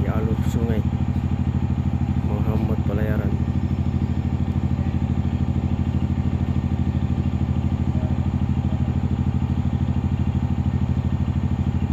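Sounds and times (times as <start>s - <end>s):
engine running with thudding beat: 0.0s - 11.9s.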